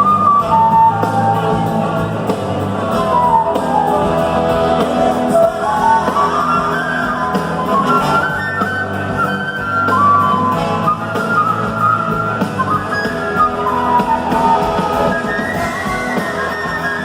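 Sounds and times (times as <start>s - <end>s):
gliding lead melody: 0.0s - 17.0s
rock band playing live: 0.0s - 17.0s.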